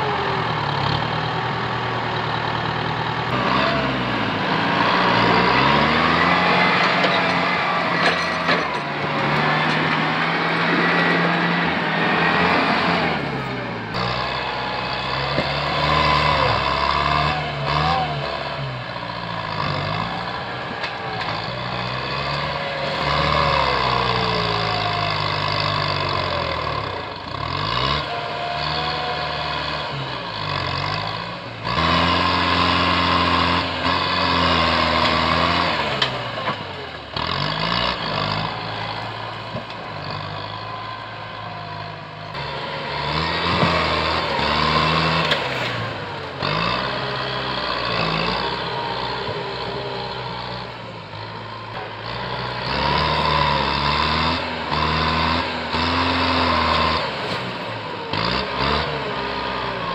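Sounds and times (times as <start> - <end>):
tractor diesel engine working: 0.0 - 59.9.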